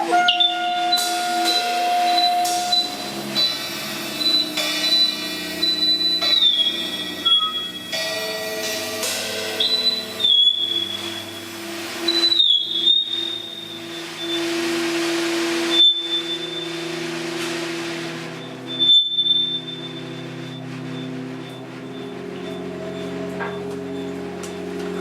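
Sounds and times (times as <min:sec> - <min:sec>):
high thin whistling tone: 0:00.0 - 0:08.0, 0:09.4 - 0:17.0, 0:18.4 - 0:24.6
hiss: 0:00.0 - 0:21.0
low drones: 0:00.0 - 0:25.0.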